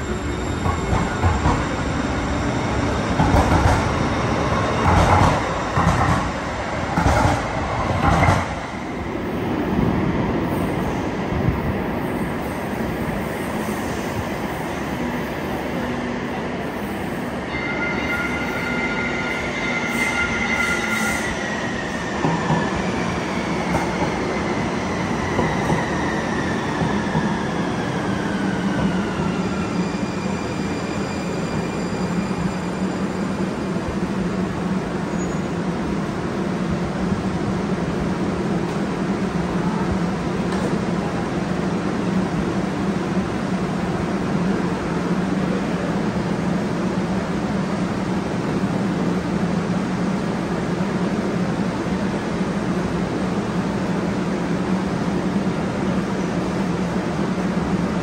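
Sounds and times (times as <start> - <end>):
train whine: 0.0 - 58.0.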